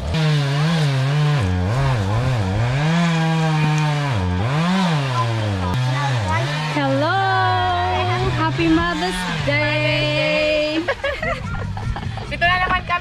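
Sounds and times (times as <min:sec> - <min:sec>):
dirt bike engine revving: 0:00.0 - 0:12.5.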